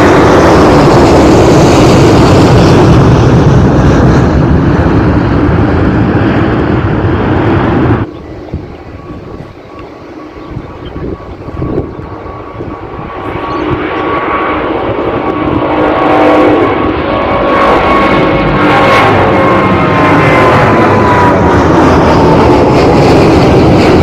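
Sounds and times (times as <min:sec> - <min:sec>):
distant jet rumble: 0:00.0 - 0:24.0
jet airliner taking off: 0:00.0 - 0:24.0.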